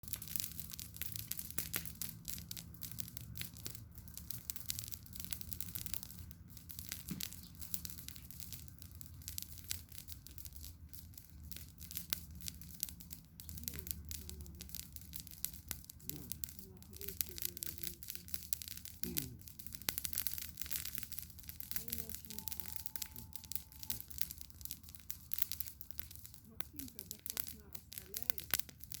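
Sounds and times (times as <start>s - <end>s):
campfire crackling and popping: 0.0s - 29.0s
low background noise: 0.0s - 29.0s.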